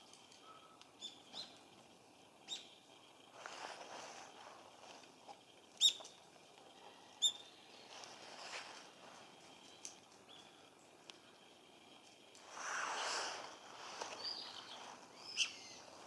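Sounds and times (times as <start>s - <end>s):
rustling of dry leaves: 0.0s - 16.0s.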